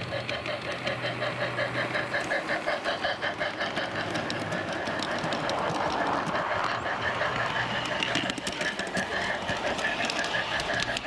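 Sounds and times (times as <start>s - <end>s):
model train running on track: 0.0s - 11.0s
wheels clicking over rails: 0.0s - 11.0s.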